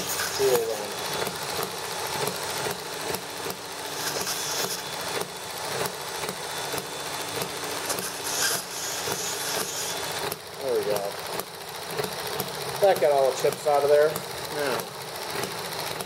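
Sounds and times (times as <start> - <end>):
rotary tool grinding brass pipe: 0.0 - 16.0.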